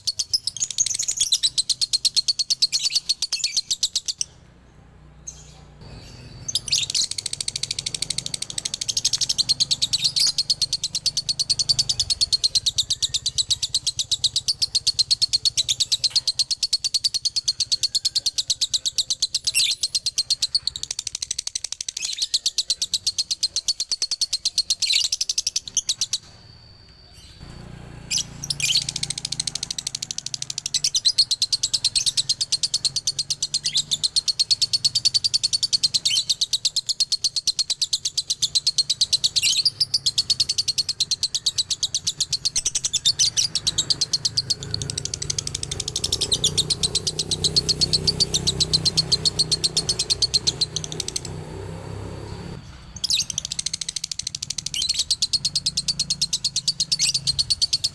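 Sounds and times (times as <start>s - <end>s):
lovebird chattering song: 0.0s - 4.6s, 5.2s - 57.9s.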